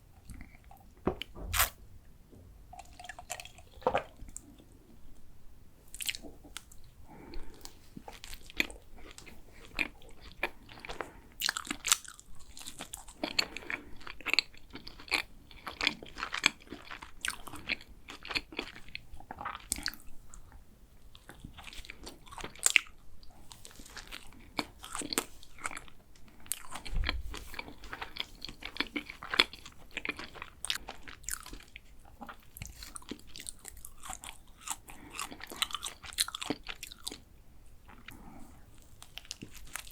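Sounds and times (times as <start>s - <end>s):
chewing pastry: 0.1s - 1.7s, 5.9s - 39.9s.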